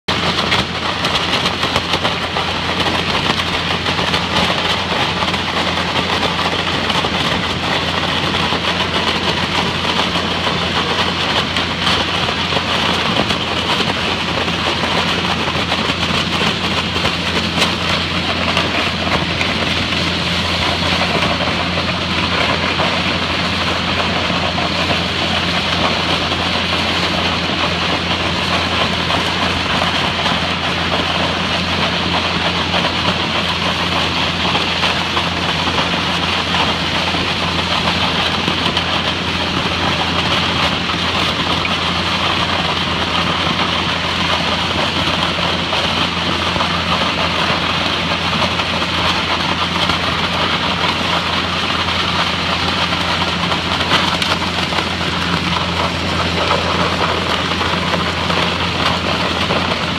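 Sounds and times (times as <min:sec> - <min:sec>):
constant low hum: 0:00.0 - 0:59.9
water jet blasting concrete: 0:00.1 - 0:59.9.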